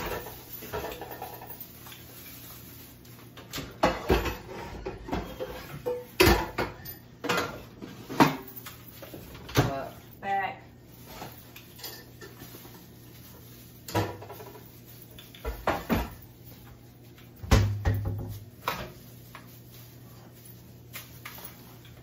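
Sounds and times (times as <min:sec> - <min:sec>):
kitchen things clattering: 0:00.0 - 0:22.0.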